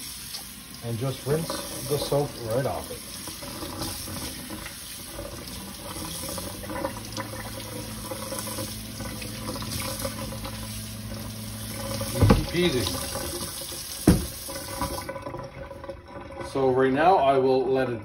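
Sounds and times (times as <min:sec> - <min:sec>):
faucet running onto cutting board: 0:00.0 - 0:16.6
water splashing into steel sink: 0:00.0 - 0:16.6.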